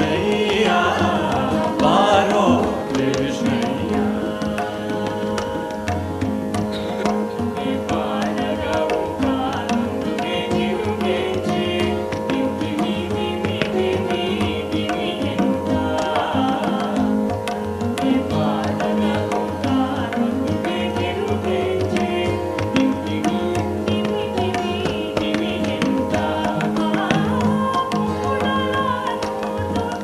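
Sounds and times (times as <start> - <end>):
guitar: 0.0 - 30.0
tabla beat: 0.0 - 30.0.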